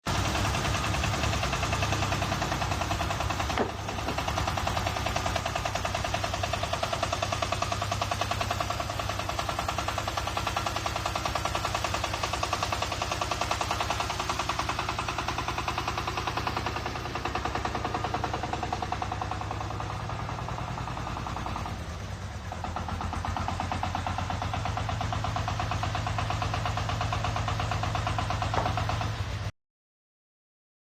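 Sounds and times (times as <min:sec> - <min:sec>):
tractor engine chugging: 0:00.0 - 0:29.5.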